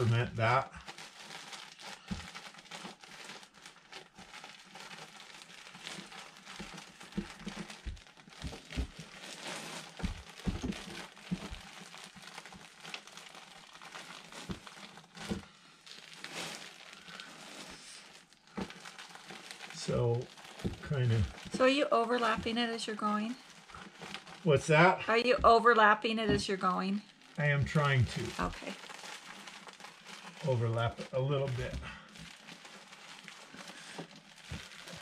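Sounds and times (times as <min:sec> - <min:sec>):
insulation crinkling and rustling: 0:00.0 - 0:35.0.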